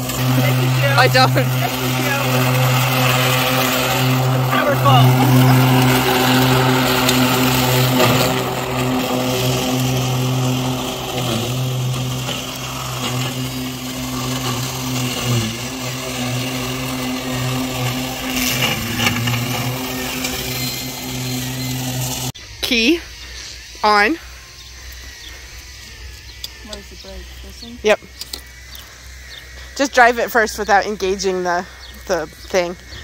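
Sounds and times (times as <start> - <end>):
electric mower hum: 0.0 - 33.0.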